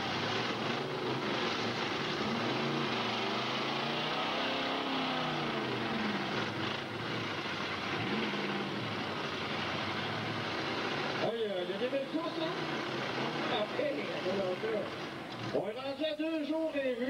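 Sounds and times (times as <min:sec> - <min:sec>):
car engines revving hard: 0:00.0 - 0:15.6.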